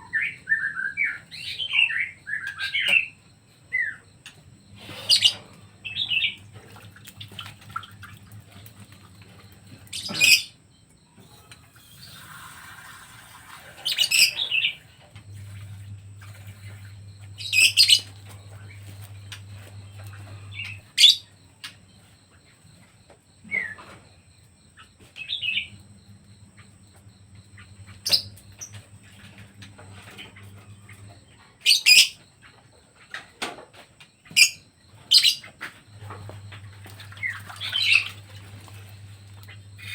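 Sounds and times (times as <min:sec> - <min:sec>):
pet birds chirping: 0:00.0 - 0:12.8, 0:13.4 - 0:33.4, 0:34.1 - 0:39.9.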